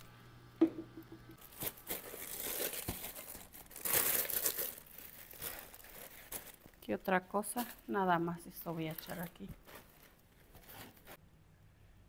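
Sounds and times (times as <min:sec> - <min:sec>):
plastic bags crinkling: 0:01.4 - 0:11.2.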